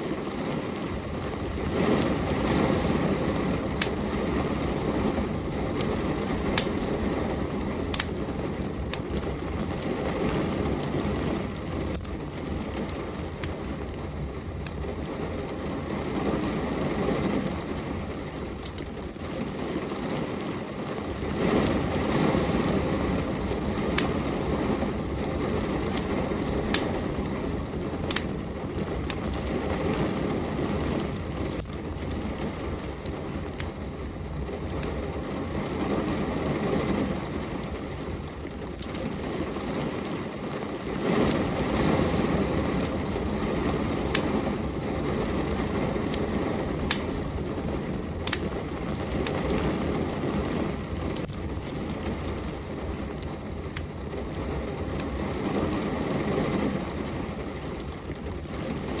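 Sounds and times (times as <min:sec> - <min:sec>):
rain hissing and rumbling: 0:00.0 - 0:59.0
wood fire crackling: 0:00.0 - 0:59.0.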